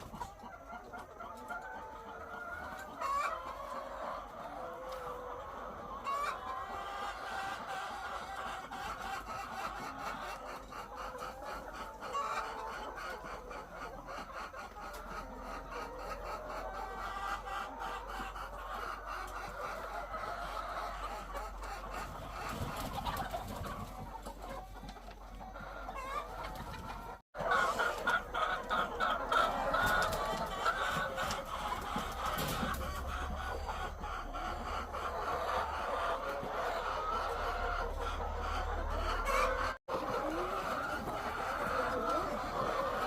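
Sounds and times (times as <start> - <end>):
hens clucking: 0.0 - 43.0.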